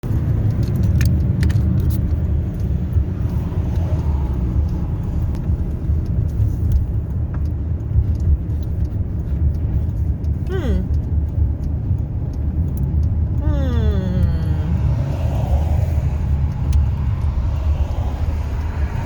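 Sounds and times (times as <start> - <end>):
car interior rumble: 0.0 - 19.0.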